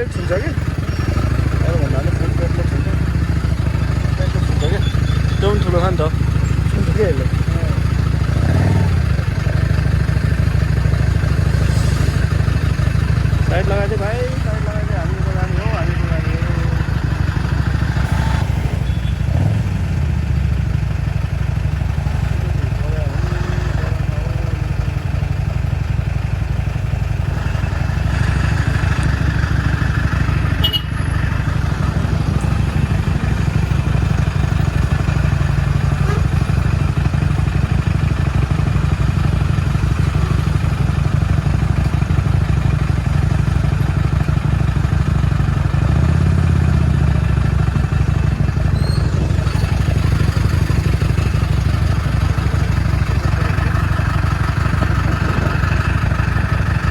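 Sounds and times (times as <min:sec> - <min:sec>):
motorcycle engine running: 0:00.0 - 0:56.9
road noise: 0:00.0 - 0:56.9.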